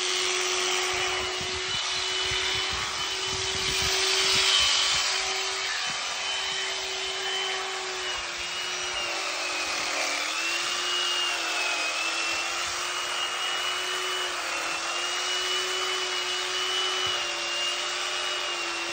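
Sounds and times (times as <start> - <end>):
electric clippers whining: 0.0 - 18.9.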